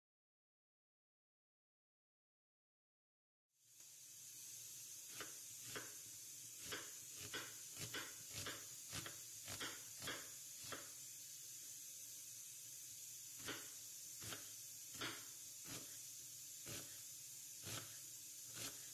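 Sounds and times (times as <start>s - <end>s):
steady hiss: 3.6s - 18.9s.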